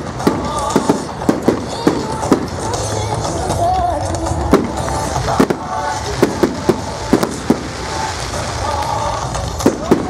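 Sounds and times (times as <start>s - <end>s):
fireworks bangs: 0.0s - 10.0s
steady background noise: 0.0s - 10.0s.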